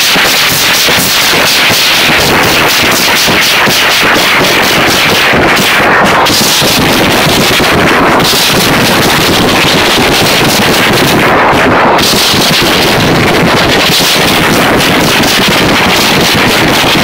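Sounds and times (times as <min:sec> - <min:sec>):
distorted live concert noise: 0:00.0 - 0:17.0.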